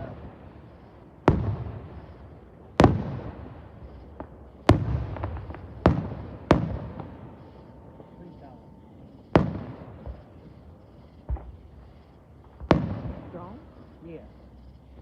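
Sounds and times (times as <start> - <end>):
faint fireworks pops: 0.0 - 7.6, 9.2 - 14.3
fireworks bangs: 0.0 - 15.0.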